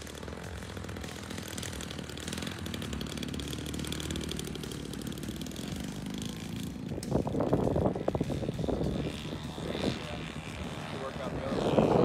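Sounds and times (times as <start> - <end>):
model plane engine: 0.0 - 12.0.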